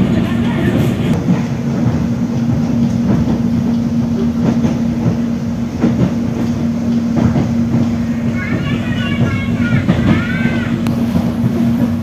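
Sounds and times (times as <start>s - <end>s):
train cabin rumble and hum: 0.0s - 12.0s
wheels clicking over rail joints: 0.0s - 12.0s.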